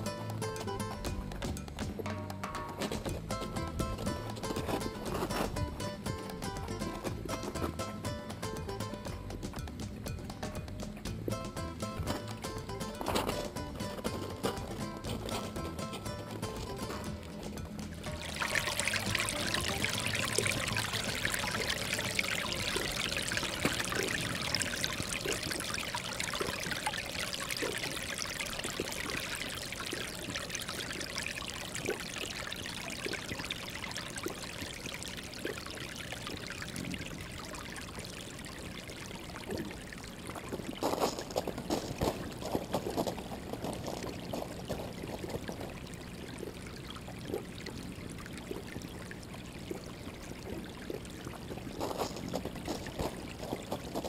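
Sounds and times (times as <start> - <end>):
water sloshing in a trough: 0.0 - 9.6, 10.4 - 54.0
sheep lapping water: 2.7 - 9.2, 11.1 - 54.0.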